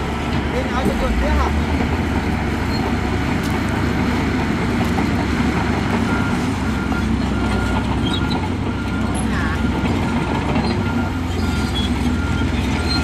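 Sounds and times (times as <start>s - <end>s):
heavy machinery diesel engines: 0.0s - 13.0s.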